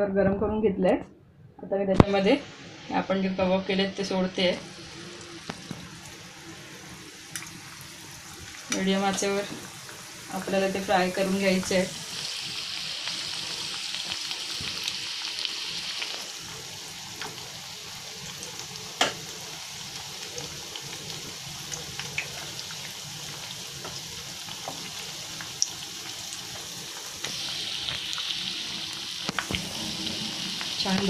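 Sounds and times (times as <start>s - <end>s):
food sizzling in hot oil: 2.4s - 31.0s.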